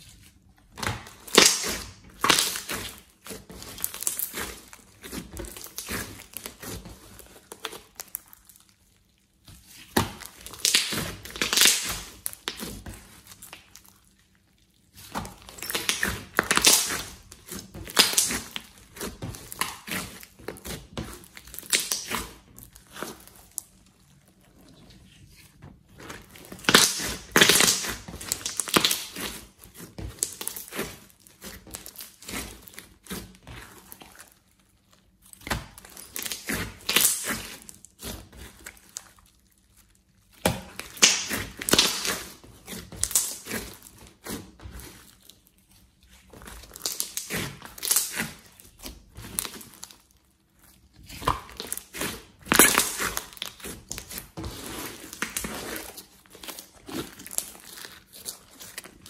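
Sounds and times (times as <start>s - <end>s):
hands squeezing sticky slime: 0.0s - 59.0s.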